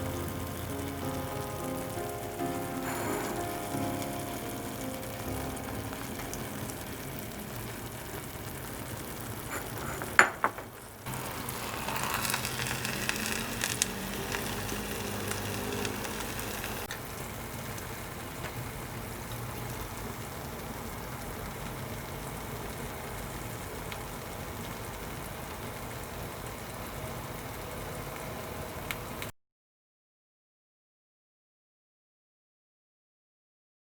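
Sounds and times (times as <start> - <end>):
rice sizzling in a pot: 0.0 - 29.2.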